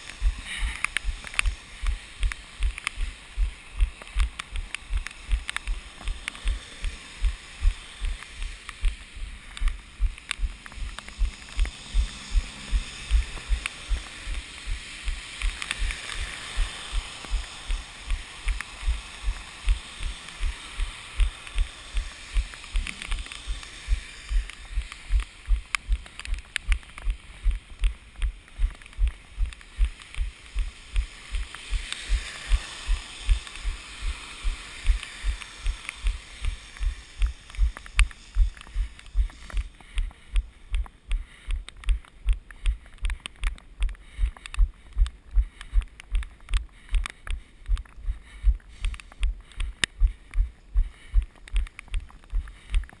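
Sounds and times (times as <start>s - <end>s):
faint hiss: 0.0s - 53.0s
running footsteps: 0.0s - 53.0s.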